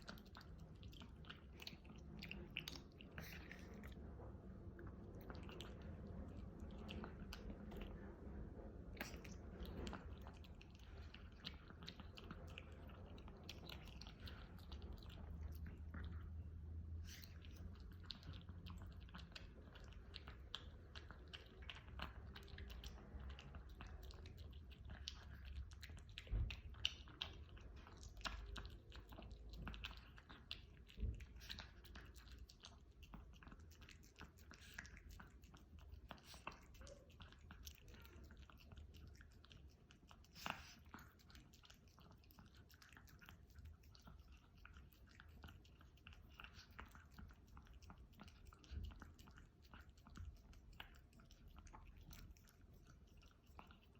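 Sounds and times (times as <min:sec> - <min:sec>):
dog chewing and crunching food: 0:00.0 - 0:53.9.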